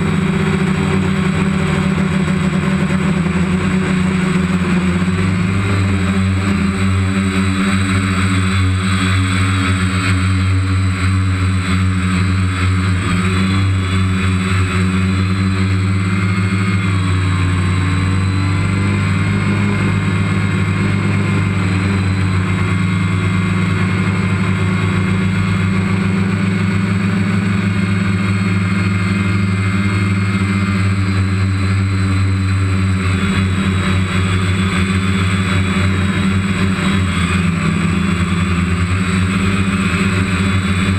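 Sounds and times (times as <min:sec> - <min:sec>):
drone motors buzzing: 0:00.0 - 0:40.9.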